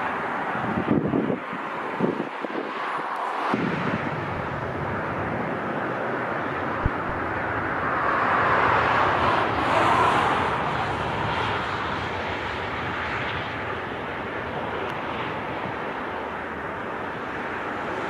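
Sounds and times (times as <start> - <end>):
jet airliner passing: 0.0 - 18.0
wind on microphone: 0.0 - 18.0.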